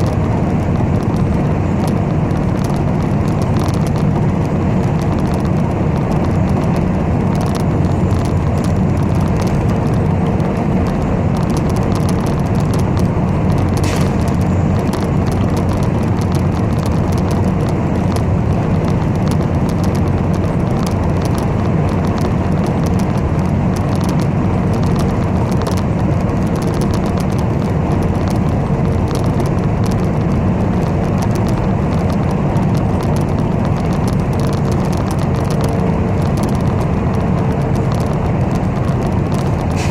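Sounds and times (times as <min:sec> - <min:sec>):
bus engine and road noise: 0:00.0 - 0:39.9.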